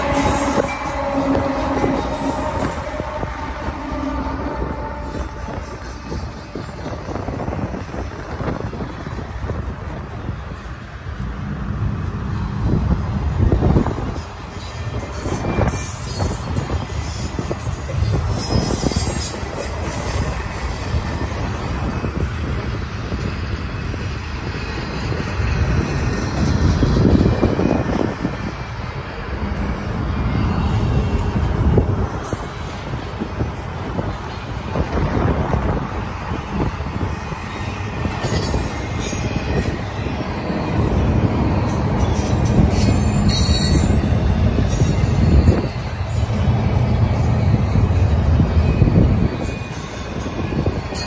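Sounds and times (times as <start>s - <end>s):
high wheel squeal: 0.0s - 8.5s, 13.6s - 35.8s, 36.6s - 51.0s
train wheels rumbling on rail: 0.0s - 51.0s.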